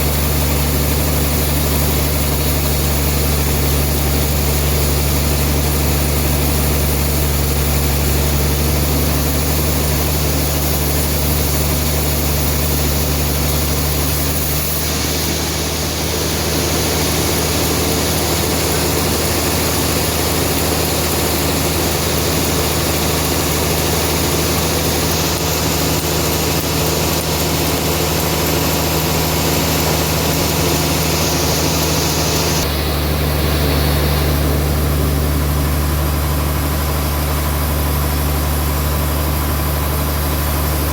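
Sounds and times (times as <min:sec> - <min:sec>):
band sawmill humming: 0:00.0 - 0:40.9.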